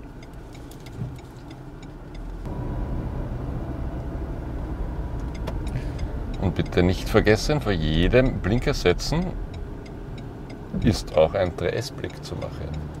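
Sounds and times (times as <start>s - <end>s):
turn signal ticking: 0.0s - 2.6s, 3.7s - 13.0s
car engine and road rumble: 0.0s - 13.0s.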